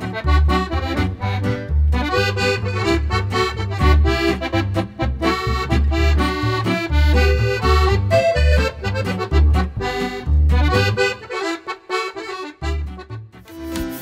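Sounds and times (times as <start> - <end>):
pulsing bass line: 0.0 - 11.3
upbeat accordion music: 0.0 - 14.0.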